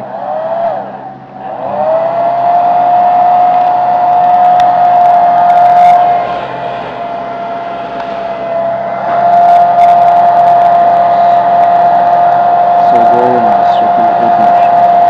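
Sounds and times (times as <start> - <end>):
hair dryer running: 0.2 - 15.0.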